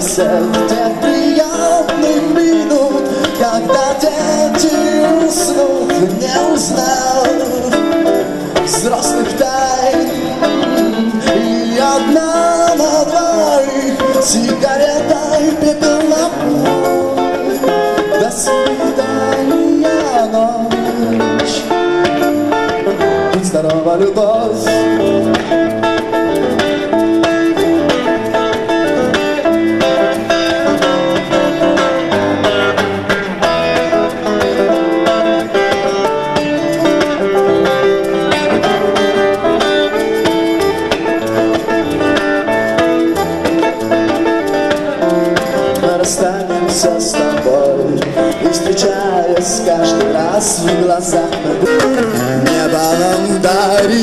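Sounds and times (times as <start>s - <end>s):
man singing: 0.0s - 26.2s, 33.8s - 54.0s
electric guitar: 0.0s - 54.0s
live rock band: 0.0s - 54.0s.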